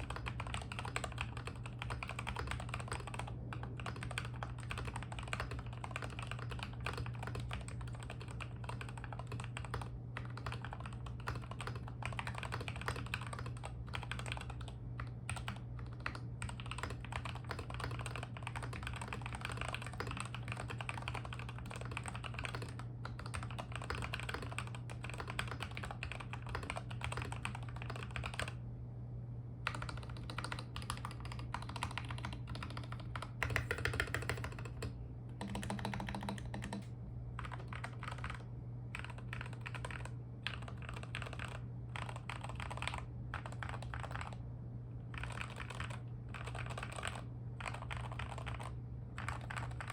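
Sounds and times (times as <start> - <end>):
fast mechanical keyboard typing: 0.0 - 28.6, 29.6 - 44.4, 45.0 - 49.9
steady low hum: 0.0 - 49.9.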